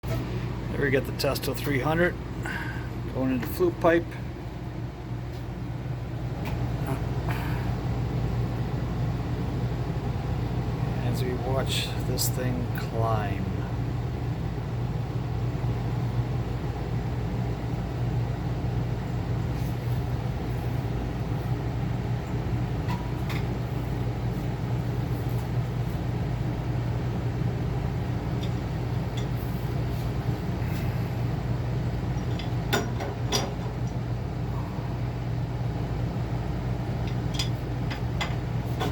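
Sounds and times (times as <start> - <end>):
furnace burner and blower hum: 0.0 - 38.9.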